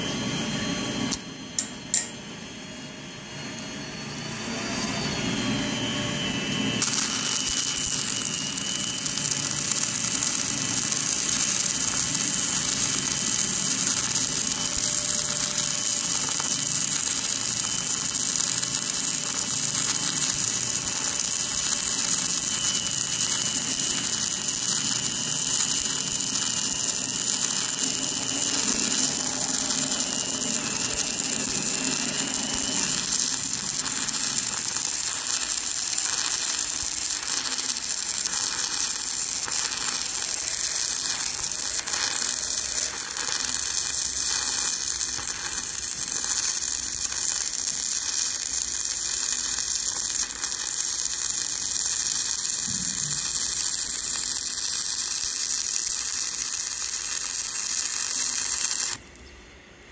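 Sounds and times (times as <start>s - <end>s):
arc welding sizzling and crackling: 6.8s - 59.3s.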